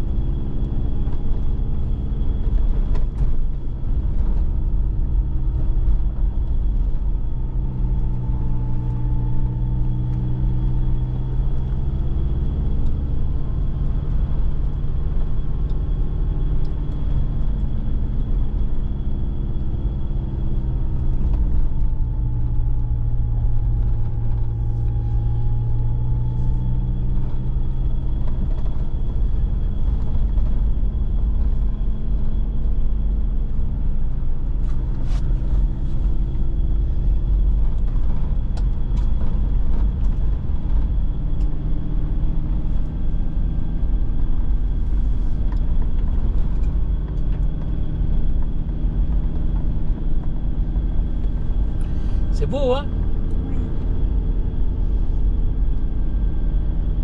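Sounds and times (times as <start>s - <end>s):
engine running under load: 0.0s - 57.0s
road rumble: 0.0s - 57.0s.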